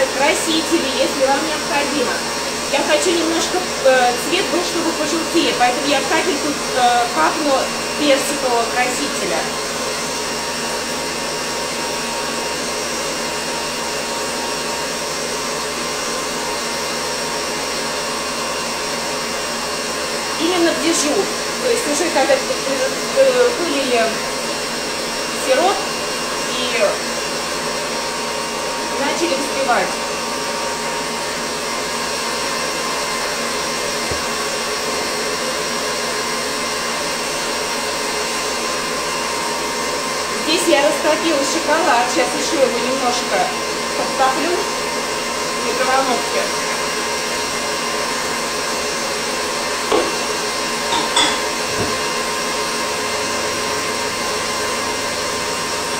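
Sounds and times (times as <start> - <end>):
stand mixer whisking in metal bowl: 0.0 - 55.9.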